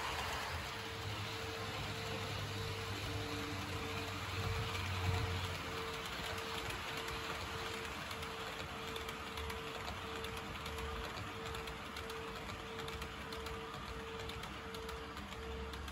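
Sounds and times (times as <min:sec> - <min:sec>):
model train rolling rumble: 0:00.0 - 0:15.9
wheels clicking over rail joints: 0:00.0 - 0:15.9.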